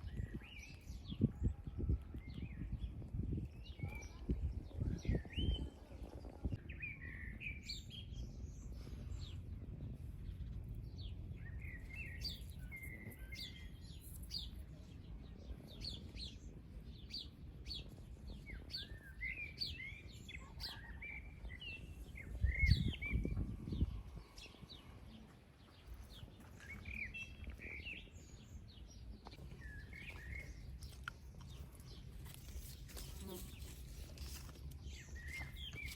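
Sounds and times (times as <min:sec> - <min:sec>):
small birds chirping: 0:00.0 - 0:35.9
wind rumble on microphone: 0:00.0 - 0:35.9.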